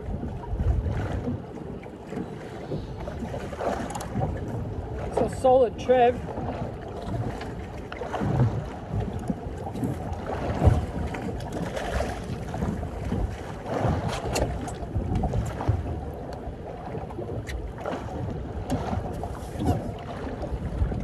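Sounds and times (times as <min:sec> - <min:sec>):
water lapping against boat hull: 0:00.0 - 0:21.0
wind on microphone: 0:00.0 - 0:21.0.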